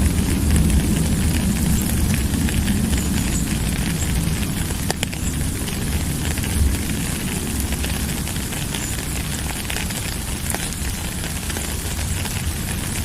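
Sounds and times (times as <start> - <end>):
raindrops ticking: 0.0 - 13.0
steady rain: 0.0 - 13.0.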